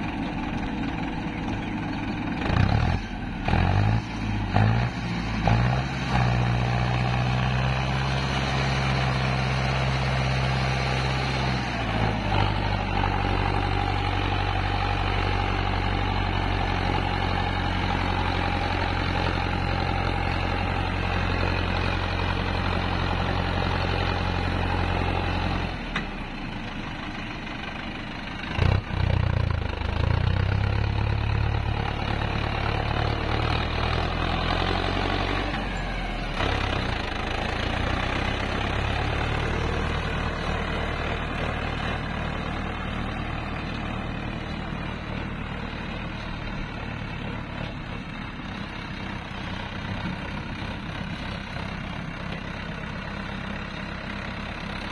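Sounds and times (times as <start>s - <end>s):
tractor diesel engine: 0.0s - 54.9s.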